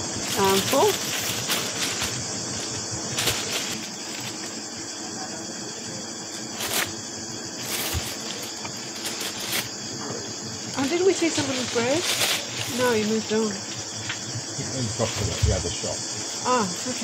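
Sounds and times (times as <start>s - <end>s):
cicadas singing: 0.0s - 17.0s.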